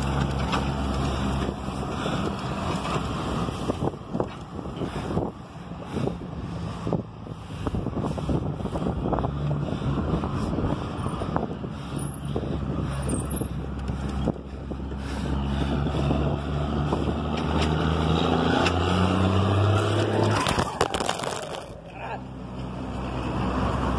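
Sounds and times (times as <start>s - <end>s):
diesel truck engine running: 0.0s - 23.9s.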